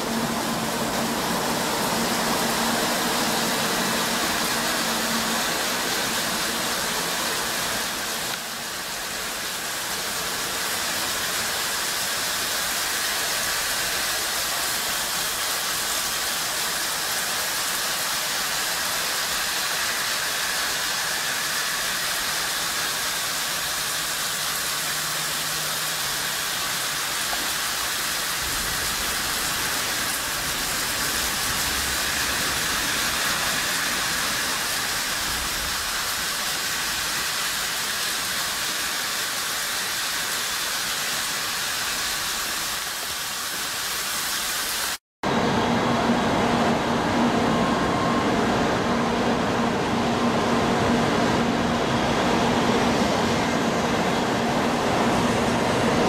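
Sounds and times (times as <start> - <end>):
train motor hum: 0.0 - 42.8, 45.3 - 56.0
sprinklers spraying water: 0.0 - 45.0.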